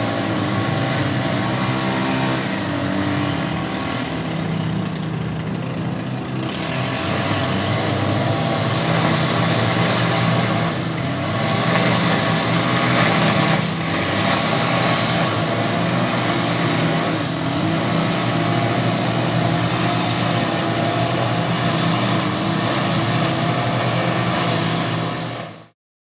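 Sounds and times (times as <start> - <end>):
hiss of grass cutting: 0.0 - 25.8
lawnmower engine running: 0.0 - 25.8.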